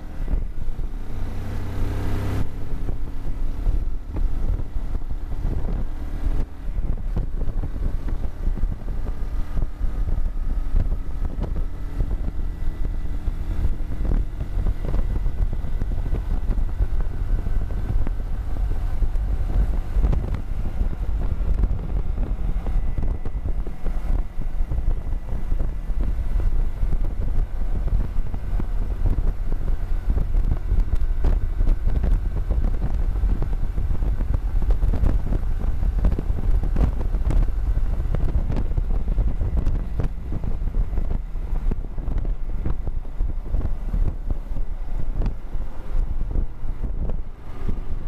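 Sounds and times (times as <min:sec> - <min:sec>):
motorcycle engine running: 0:00.0 - 0:48.0
wind buffeting microphone: 0:00.0 - 0:48.0.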